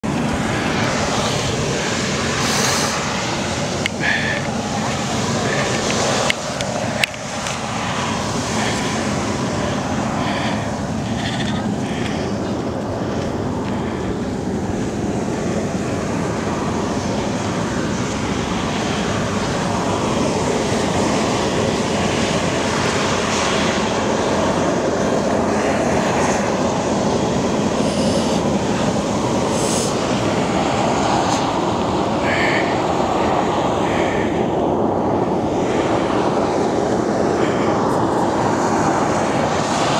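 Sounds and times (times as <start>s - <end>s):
steam jetting from vents: 0.2s - 23.9s, 25.6s - 34.4s.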